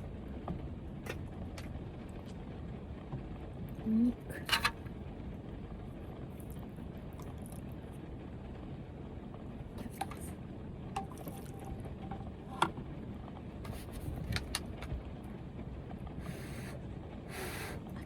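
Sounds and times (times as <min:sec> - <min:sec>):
heavy rain on a van roof: 0:00.0 - 0:11.0, 0:11.8 - 0:18.0.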